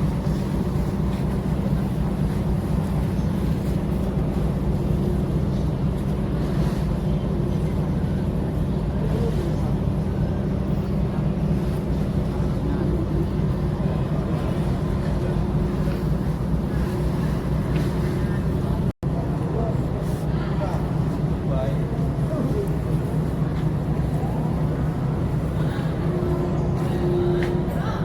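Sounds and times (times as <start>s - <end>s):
faint wind: 0.0s - 28.0s
ferry engine drone: 0.0s - 28.0s.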